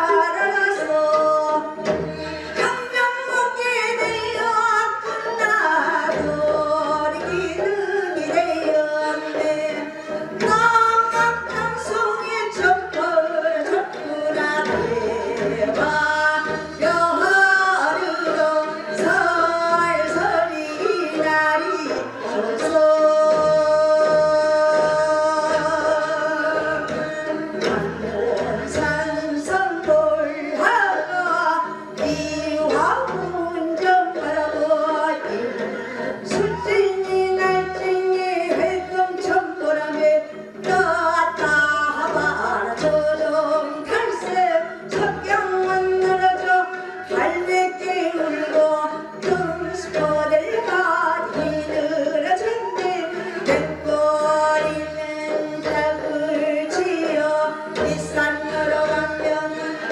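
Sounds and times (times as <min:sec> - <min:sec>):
woman singing folk song: 0:00.0 - 0:59.9.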